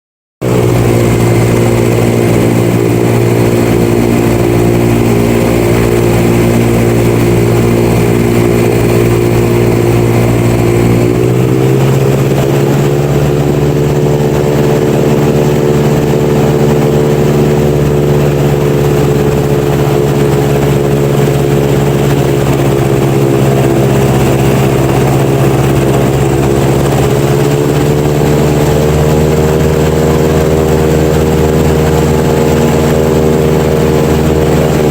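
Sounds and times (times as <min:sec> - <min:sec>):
airboat engine and propeller: 0:00.4 - 0:34.9.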